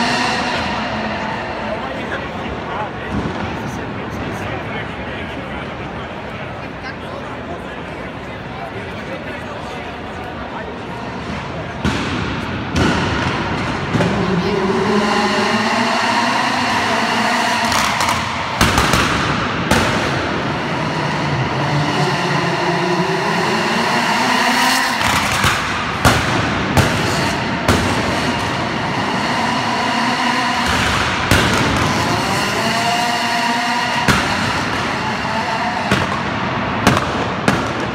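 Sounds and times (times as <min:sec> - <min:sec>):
loud exhaust bangs: 0:00.0 - 0:06.4, 0:10.6 - 0:37.9
car engine revving: 0:00.0 - 0:06.8, 0:10.6 - 0:37.9.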